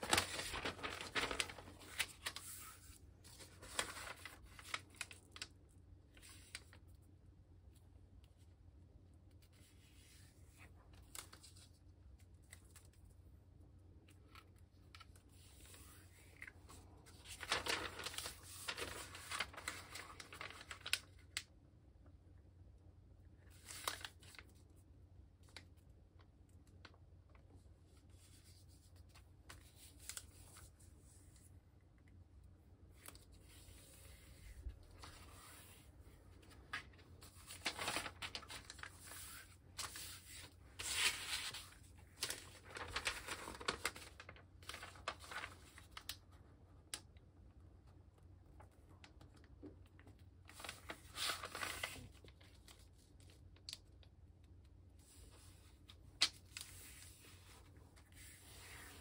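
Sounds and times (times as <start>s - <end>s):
paper rustling and crinkling: 0.0s - 7.0s, 9.3s - 13.1s, 14.0s - 21.5s, 23.4s - 24.8s, 26.8s - 31.5s, 32.8s - 47.1s, 48.4s - 54.1s, 55.0s - 59.0s.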